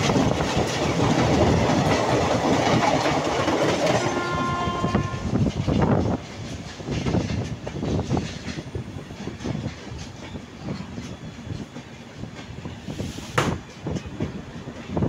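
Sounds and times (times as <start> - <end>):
steady train rumble: 0.0 - 15.0
train wheels clattering over rail joints: 0.0 - 15.0.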